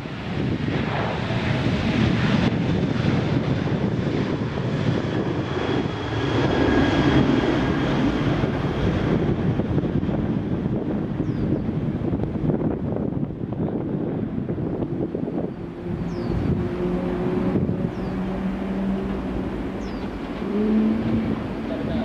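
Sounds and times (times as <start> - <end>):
jet engine noise: 0.0 - 22.0
wind on the microphone: 0.0 - 22.0.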